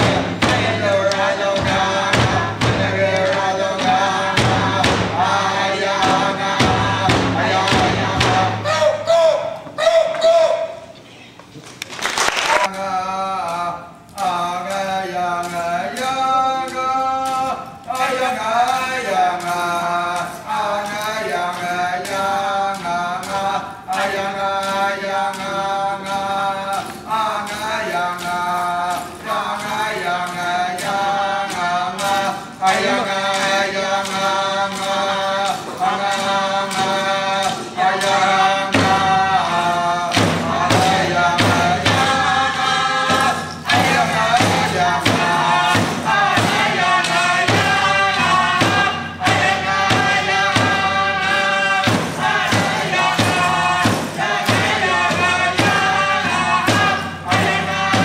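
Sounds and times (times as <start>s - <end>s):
men and women chanting in unison: 0.0s - 9.5s, 12.7s - 58.0s
frame drums beaten with sticks: 0.0s - 10.4s, 14.2s - 58.0s.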